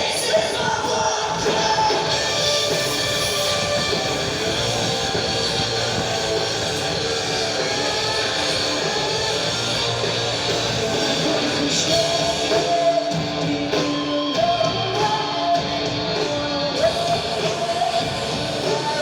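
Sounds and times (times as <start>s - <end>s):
drums: 0.0s - 19.0s
electric guitars: 0.0s - 19.0s.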